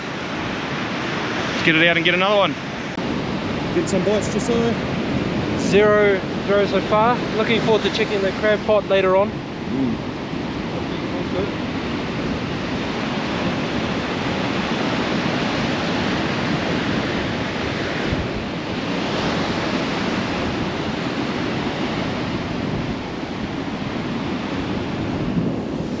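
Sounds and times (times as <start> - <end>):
surf breaking on beach: 0.0 - 26.0
wind buffeting microphone: 0.0 - 26.0.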